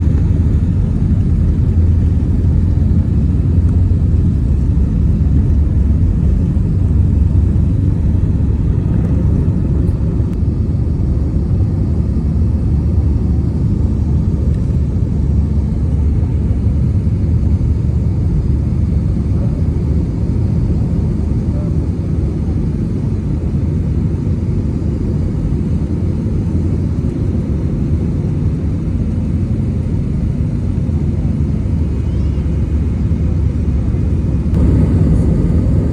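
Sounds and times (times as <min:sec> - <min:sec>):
jet engines and airflow rumble: 0:00.0 - 0:35.9.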